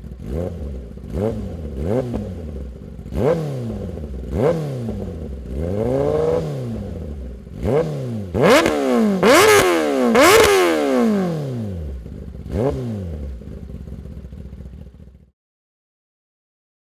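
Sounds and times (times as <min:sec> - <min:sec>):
motorcycle engine revving: 0:00.0 - 0:15.3.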